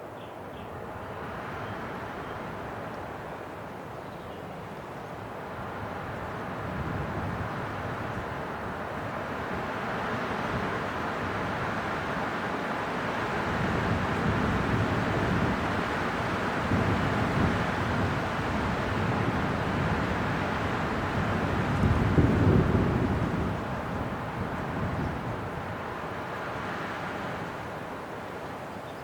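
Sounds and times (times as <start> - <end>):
wind blowing in gusts: 0.7 - 29.0.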